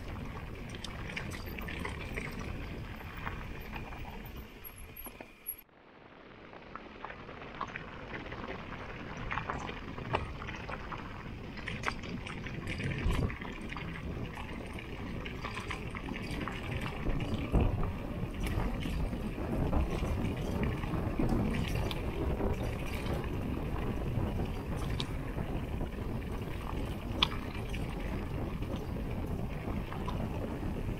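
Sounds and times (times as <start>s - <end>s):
bike rattling over bumps: 0.0s - 5.6s, 6.2s - 30.9s.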